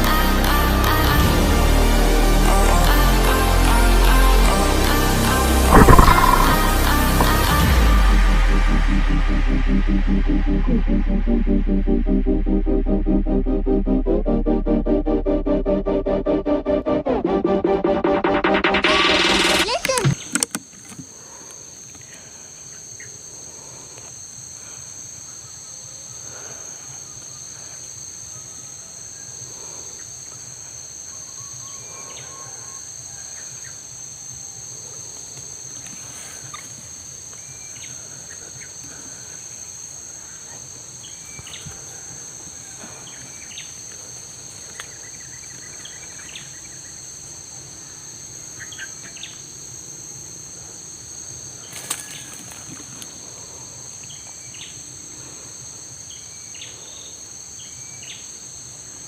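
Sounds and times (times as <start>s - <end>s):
high-pitched insect chorus: 0.0s - 14.1s, 18.6s - 59.0s.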